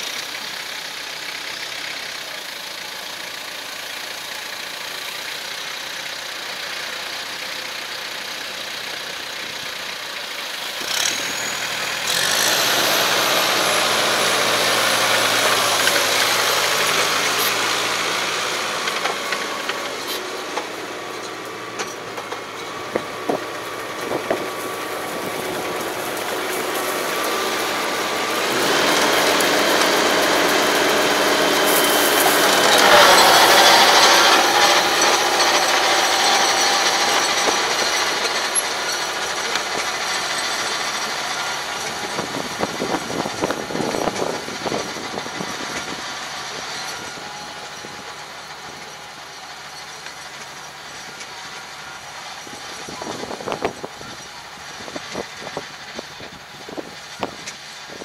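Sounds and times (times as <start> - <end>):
rotary tiller churning soil: 0.0 - 58.0
tractor diesel engine: 0.0 - 58.0.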